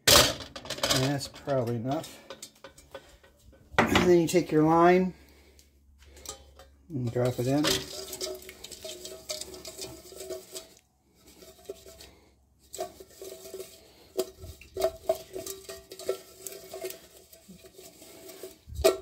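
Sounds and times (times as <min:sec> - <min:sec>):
clinks and scrapes in metal pot: 0:00.0 - 0:19.0.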